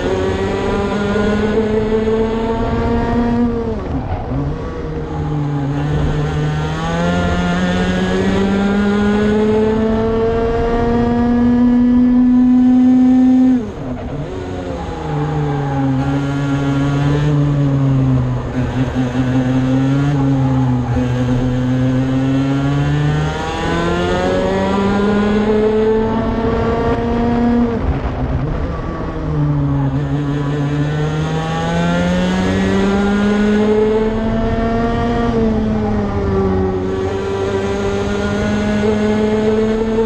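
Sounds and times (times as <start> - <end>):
kart engine at racing speed: 0.0 - 40.0.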